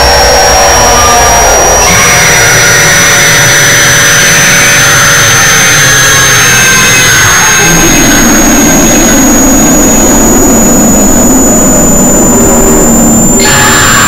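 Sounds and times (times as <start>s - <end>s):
harsh roaring noise: 0.0s - 14.0s
piercing high tone: 0.0s - 14.0s.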